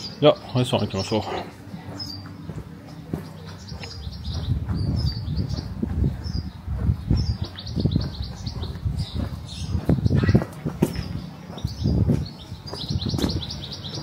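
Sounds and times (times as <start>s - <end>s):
small birds chirping: 0.0s - 14.0s
low rumble and thudding: 1.7s - 13.7s.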